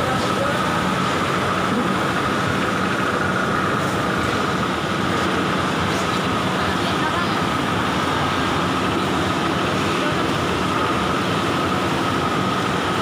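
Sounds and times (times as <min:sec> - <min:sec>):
factory machinery drone: 0:00.0 - 0:13.0.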